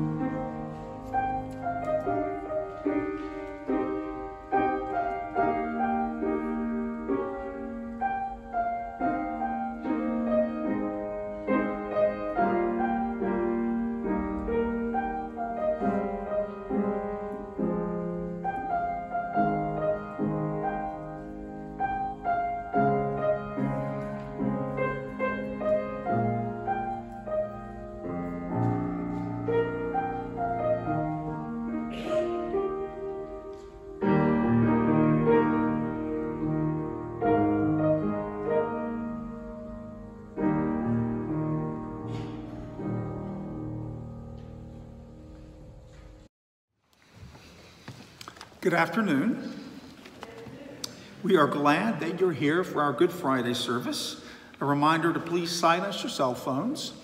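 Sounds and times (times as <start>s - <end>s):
slow piano chords: 0.0s - 46.3s, 47.0s - 57.0s.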